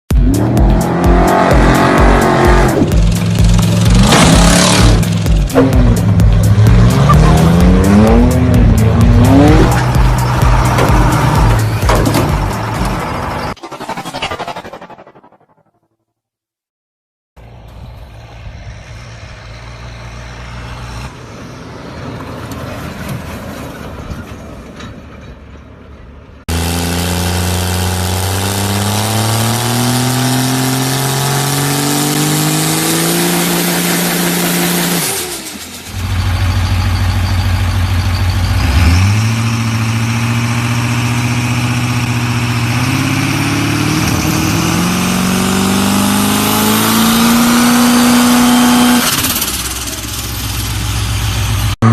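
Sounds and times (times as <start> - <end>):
diesel truck engine accelerating: 0.1 - 15.5, 17.4 - 24.8, 26.5 - 51.9.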